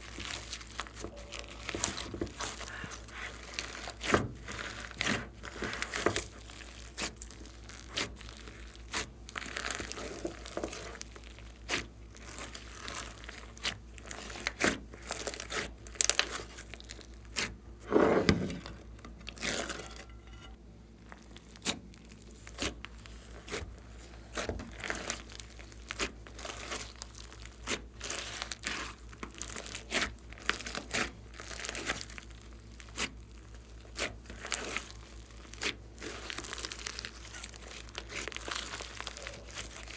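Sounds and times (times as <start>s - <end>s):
slime squelch: 0.0s - 39.9s.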